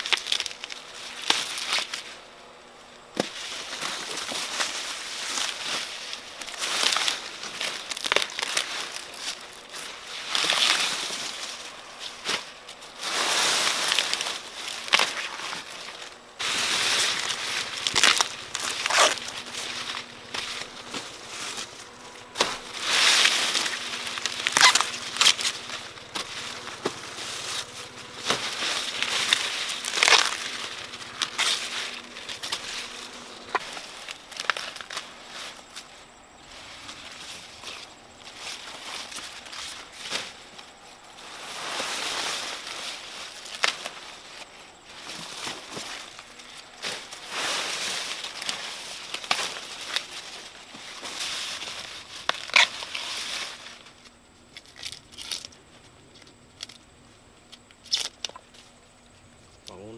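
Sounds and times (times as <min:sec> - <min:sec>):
corn leaves rustling and crackling: 0:00.0 - 0:59.9.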